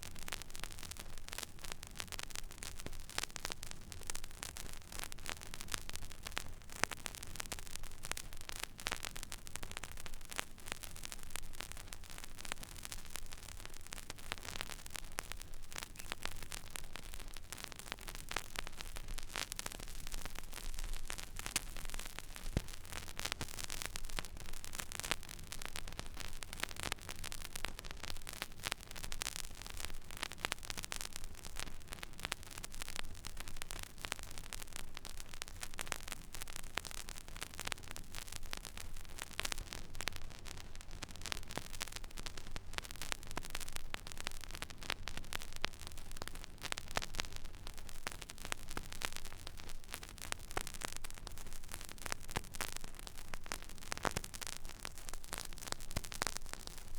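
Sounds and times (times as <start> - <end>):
vinyl surface hiss and crackle: 0.0 - 56.9.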